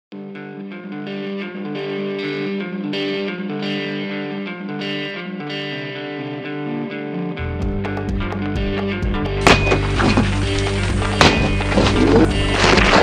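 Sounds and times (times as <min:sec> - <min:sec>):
distorted electric guitar chords: 0:00.1 - 0:13.0.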